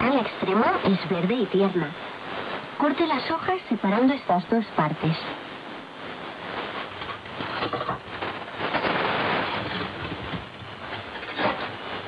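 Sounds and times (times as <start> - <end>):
radio static hiss with crackles: 0.0 - 12.0.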